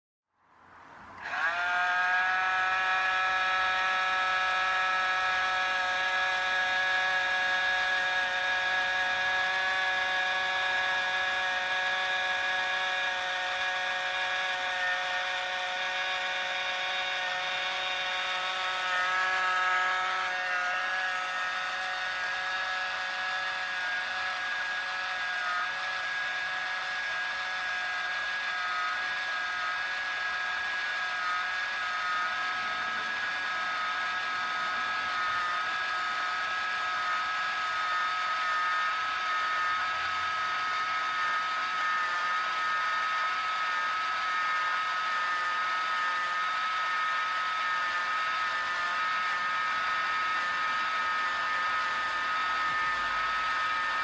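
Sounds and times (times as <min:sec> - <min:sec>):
toy motor and fan whirring: 0:01.2 - 0:54.0.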